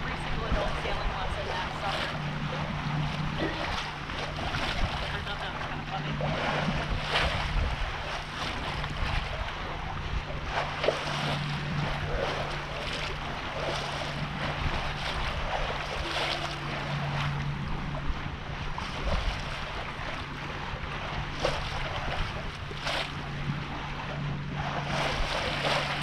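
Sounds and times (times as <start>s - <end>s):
low steady hum: 0.0s - 26.0s
water splashing against boat hull: 0.0s - 26.0s
wind buffeting microphone: 0.0s - 26.0s.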